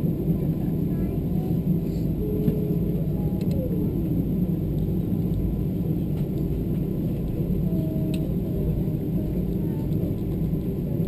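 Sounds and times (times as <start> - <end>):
aircraft cabin rumble while taxiing: 0.0 - 11.0.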